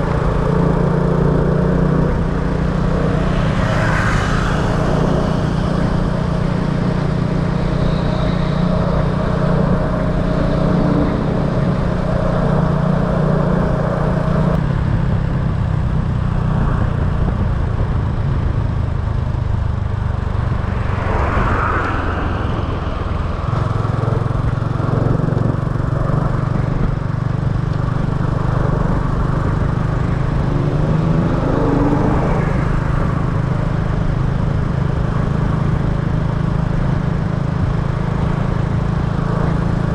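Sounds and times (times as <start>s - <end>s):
traffic passing: 0.0s - 14.6s, 15.7s - 39.9s.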